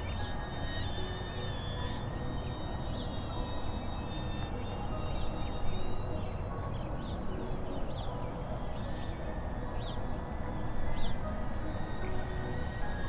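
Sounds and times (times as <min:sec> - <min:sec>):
birds chirping: 0:00.0 - 0:13.0
steady high whine: 0:00.0 - 0:13.0.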